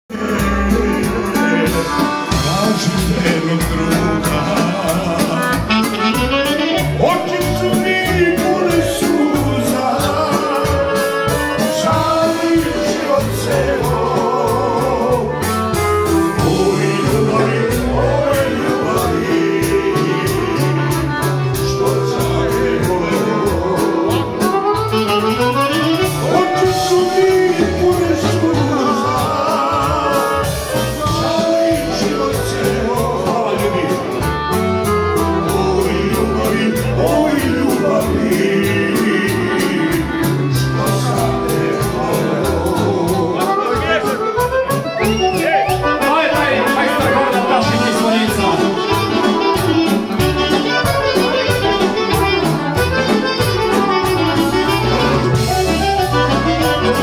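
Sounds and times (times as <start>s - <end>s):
accordion: 0.1s - 57.0s
person singing: 0.1s - 57.0s.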